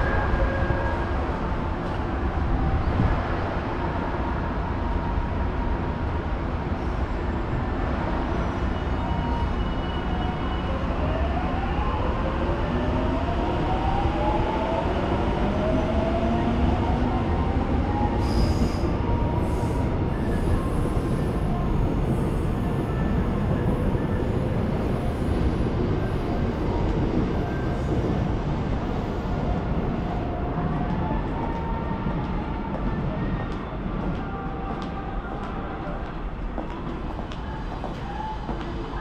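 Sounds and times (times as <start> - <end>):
electric train rumbling on rails: 0.0 - 39.0.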